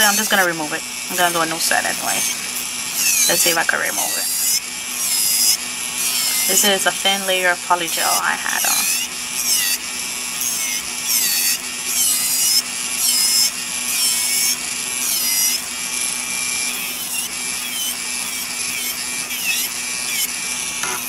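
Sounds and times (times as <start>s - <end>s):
nail drill grinding: 0.0s - 21.0s.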